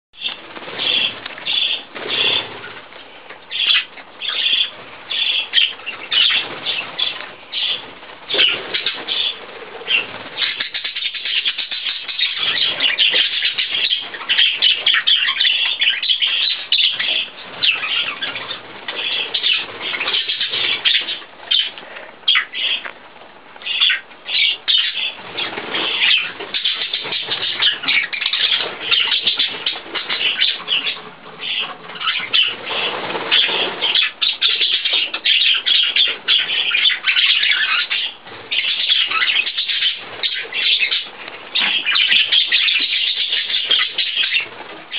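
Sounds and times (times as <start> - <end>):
budgerigar chirping and warbling: 0.2 - 2.6, 3.5 - 22.8, 23.6 - 44.9.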